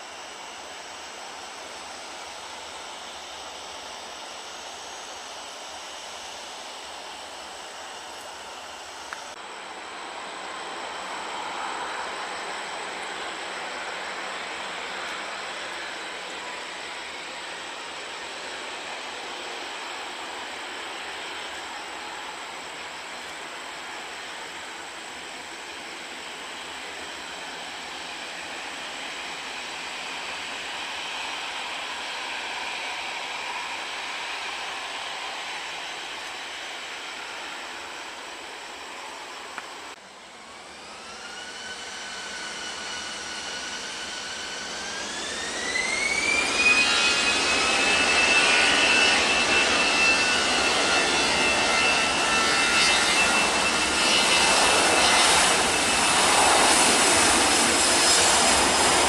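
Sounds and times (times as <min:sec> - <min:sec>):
jet engines spooling up: 0:00.0 - 0:59.0.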